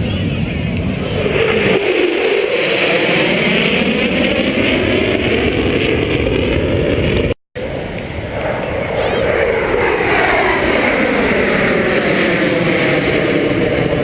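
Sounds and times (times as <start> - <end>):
aircraft engine passing: 0.0 - 14.0.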